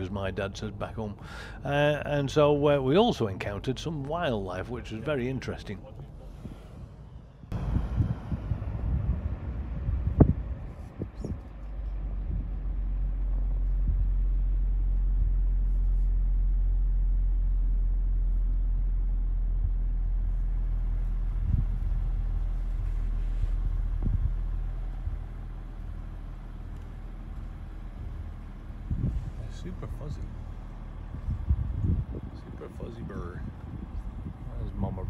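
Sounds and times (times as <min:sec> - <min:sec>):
engine rumble inside cabin: 0:00.0 - 0:35.0.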